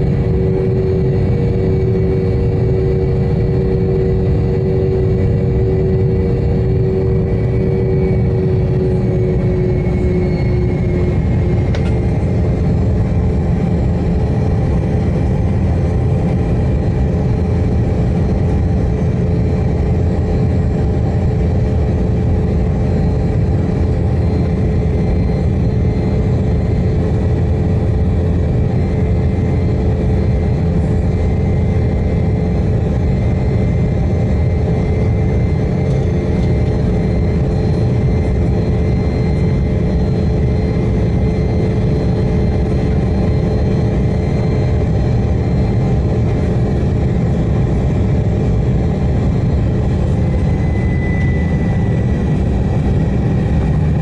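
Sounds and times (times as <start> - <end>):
jet engine rumble: 0.0 - 54.0
steady cabin hum: 0.0 - 54.0.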